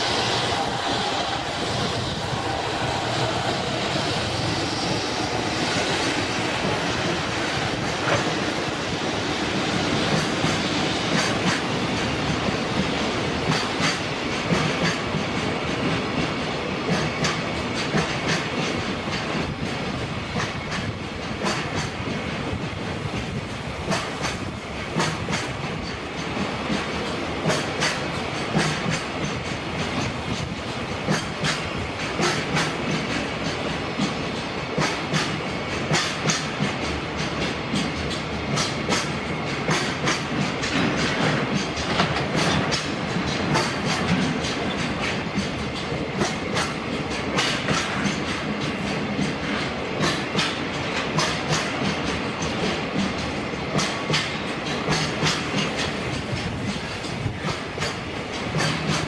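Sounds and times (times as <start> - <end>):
train wheels rumbling on rail: 0.0 - 59.0
wheels clickety-clack on rail joints: 0.0 - 59.0.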